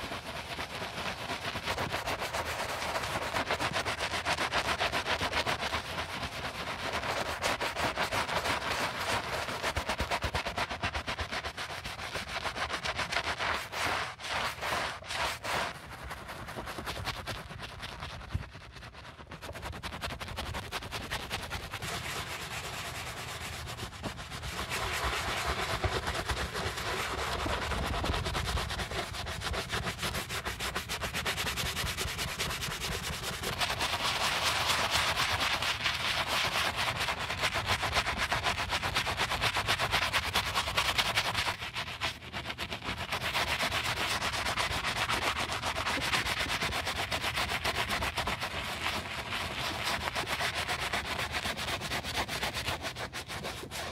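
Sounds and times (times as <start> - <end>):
brush scrubbing a sneaker: 0.0 - 53.9.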